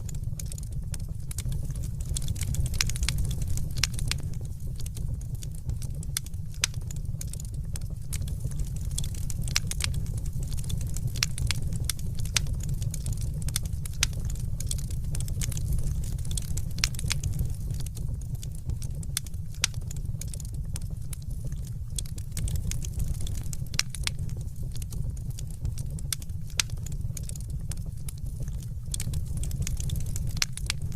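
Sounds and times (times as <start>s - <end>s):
fireplace fire crackling: 0.0s - 30.9s.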